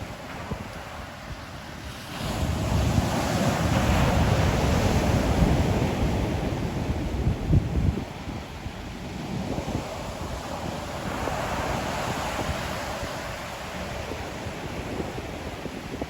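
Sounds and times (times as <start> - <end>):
sea waves breaking on shore: 0.0 - 16.0
wind rumbling on microphone: 0.0 - 16.0.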